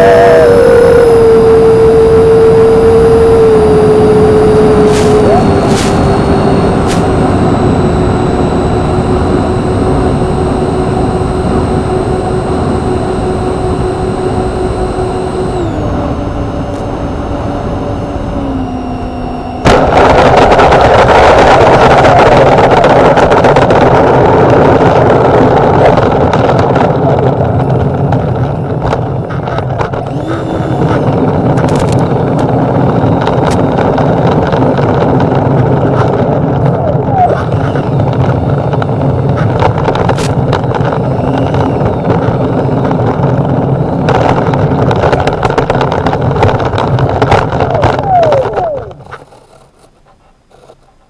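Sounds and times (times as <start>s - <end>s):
electric ducted fans whining: 0.0s - 51.0s.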